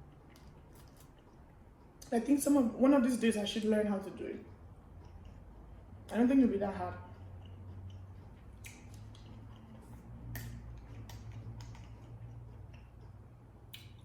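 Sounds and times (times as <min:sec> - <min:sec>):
chewing mouth sounds: 0:00.0 - 0:02.2, 0:03.5 - 0:14.0
steady low hum: 0:00.0 - 0:14.0.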